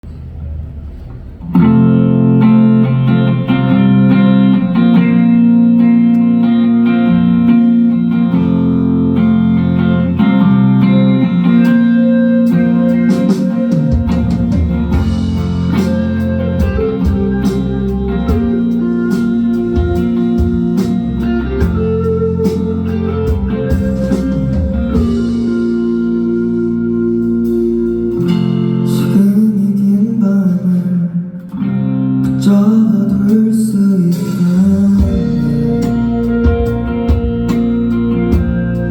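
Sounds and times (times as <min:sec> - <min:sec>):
bass and drums: 0:00.0 - 0:30.4, 0:32.4 - 0:38.9
guitar playing: 0:00.6 - 0:38.9.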